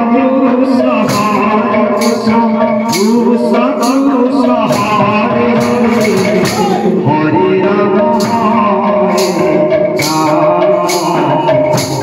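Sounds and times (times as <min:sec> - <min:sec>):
barrel drums: 0:00.0 - 0:12.0
man singing a chant: 0:00.0 - 0:12.0
hand cymbals: 0:00.6 - 0:07.1, 0:08.0 - 0:12.0.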